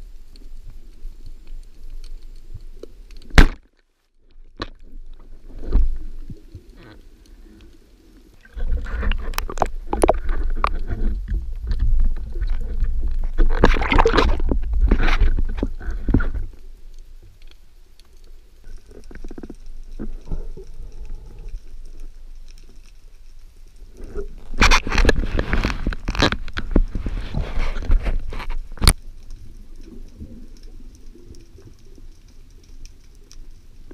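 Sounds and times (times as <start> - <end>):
underwater water wash: 4.2 - 33.9.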